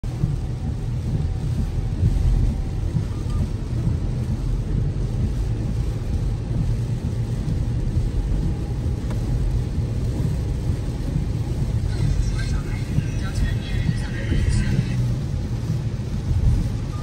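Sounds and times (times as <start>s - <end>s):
road and rain noise in car: 0.0s - 17.0s.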